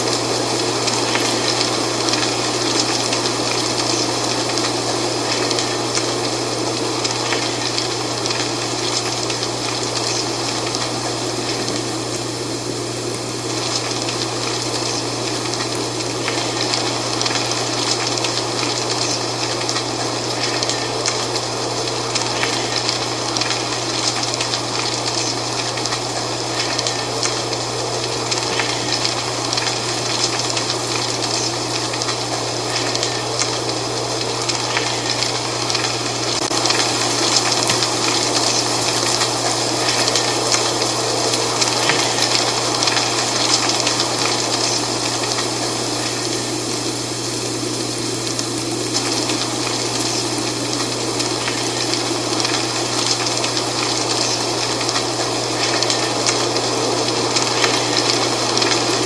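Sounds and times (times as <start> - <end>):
dry leaves rustling in wind: 0.0 - 59.0.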